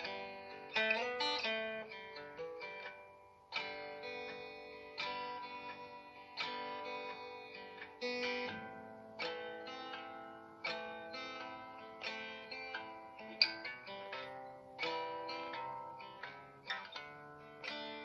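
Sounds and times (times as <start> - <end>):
strummed acoustic guitar chords: 0.0 - 18.0.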